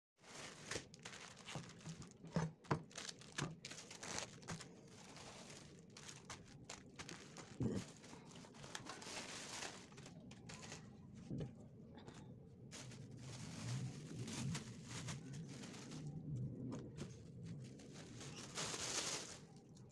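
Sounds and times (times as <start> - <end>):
plastic packaging crinkling: 0.2 - 11.2, 12.7 - 19.9.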